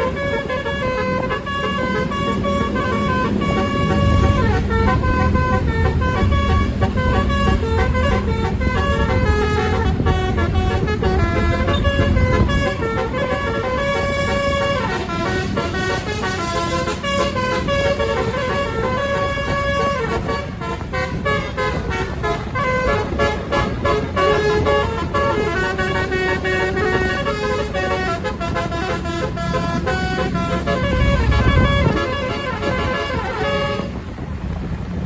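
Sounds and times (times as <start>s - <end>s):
musical air horn melody: 0.0s - 34.1s
bus engine running: 0.0s - 35.0s.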